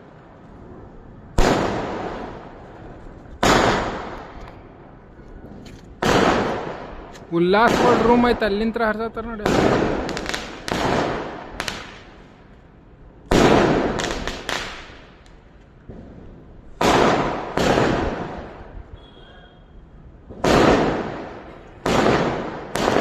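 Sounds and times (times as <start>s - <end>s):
fireworks bangs echoing: 1.2s - 12.5s, 13.3s - 15.2s, 15.8s - 19.2s, 20.2s - 23.0s.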